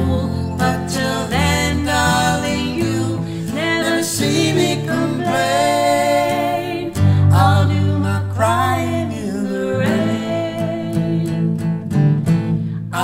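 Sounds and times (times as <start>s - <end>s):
woman singing: 0.0s - 11.7s
acoustic guitar chords: 0.0s - 13.0s.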